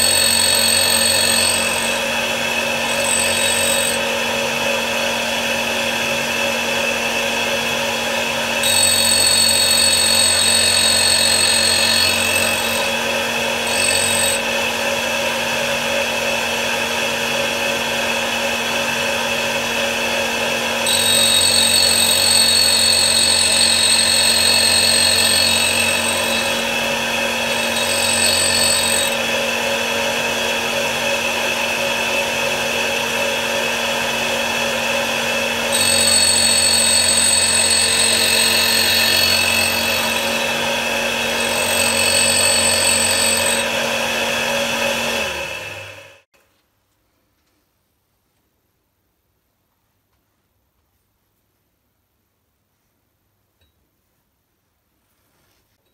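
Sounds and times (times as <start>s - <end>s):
grinder motor running: 0.0s - 46.2s
high grinding whine: 0.0s - 46.3s.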